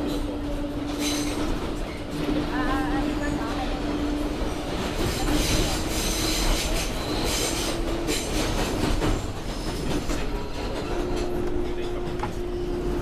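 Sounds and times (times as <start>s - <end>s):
subway car running along track: 0.0s - 13.0s.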